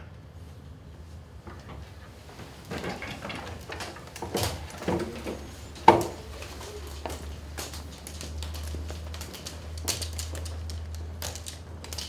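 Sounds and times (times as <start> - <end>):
shuffling footsteps: 0.4 - 12.0
chairs and desks scraping: 1.5 - 12.0.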